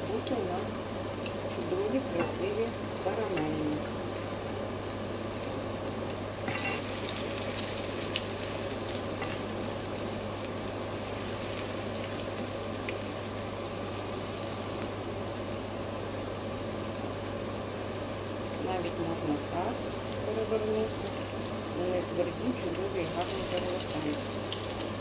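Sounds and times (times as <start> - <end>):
pancakes sizzling in oil: 0.0 - 25.0.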